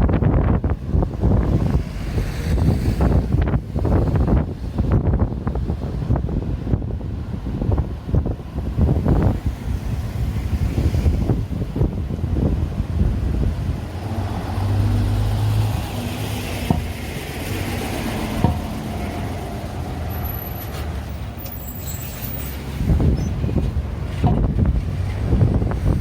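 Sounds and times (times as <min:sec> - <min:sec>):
vehicles passing: 0:00.0 - 0:26.0
wind buffeting microphone: 0:00.0 - 0:26.0.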